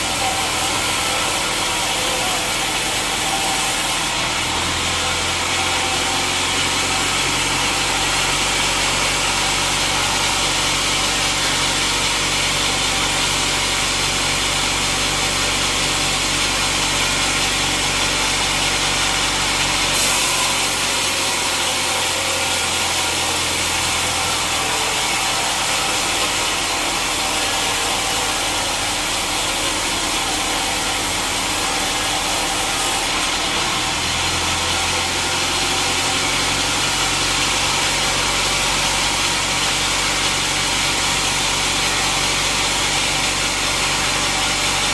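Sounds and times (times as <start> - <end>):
sawmill saw cutting log: 0.0 - 44.9.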